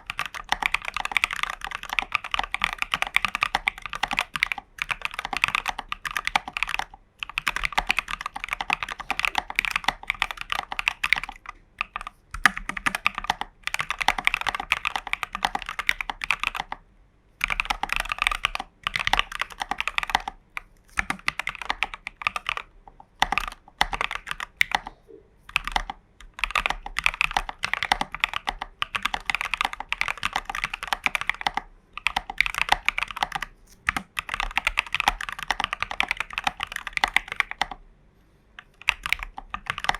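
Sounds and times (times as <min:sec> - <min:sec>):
typing on mechanical keyboard: 0:00.0 - 0:16.8, 0:17.4 - 0:37.8, 0:38.6 - 0:39.9.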